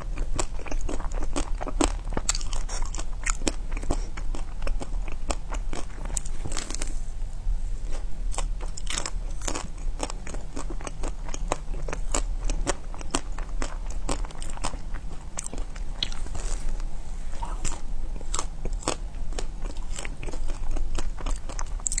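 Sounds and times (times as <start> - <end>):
chewing: 0.0 - 6.9, 7.9 - 22.0
ice cream bar crunching: 0.0 - 7.0, 7.9 - 22.0.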